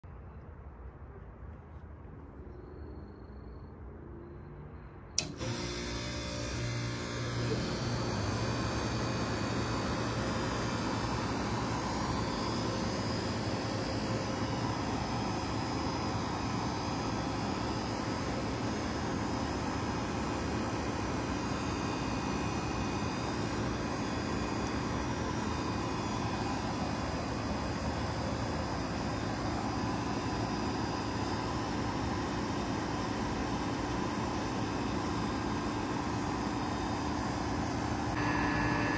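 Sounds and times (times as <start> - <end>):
faint steady whine: 0.1 - 38.9
fan air rushing: 5.2 - 38.9
heat pump humming: 5.2 - 38.9.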